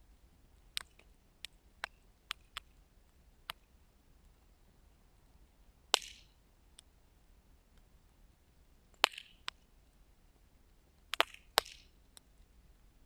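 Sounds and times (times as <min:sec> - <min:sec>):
wood fire crackling: 0:00.2 - 0:13.0.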